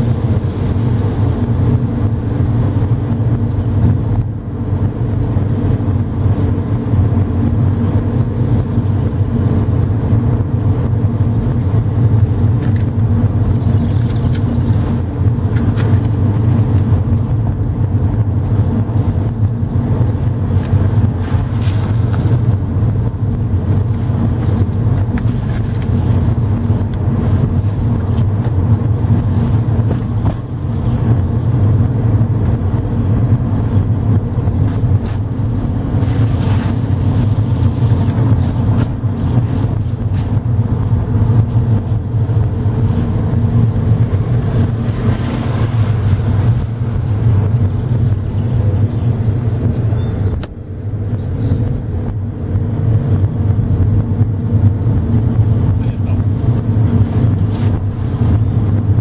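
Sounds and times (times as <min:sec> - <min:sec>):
car engine and tyres hum: 0:00.0 - 0:59.0.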